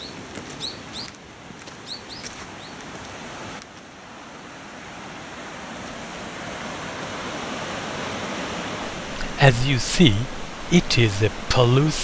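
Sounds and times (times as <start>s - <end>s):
brook water flowing: 2.2s - 12.0s.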